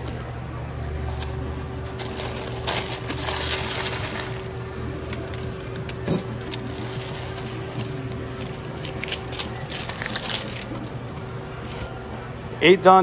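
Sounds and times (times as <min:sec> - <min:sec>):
paper wrap crinkling: 0:00.9 - 0:12.4
sharp paper crackles: 0:01.0 - 0:12.2.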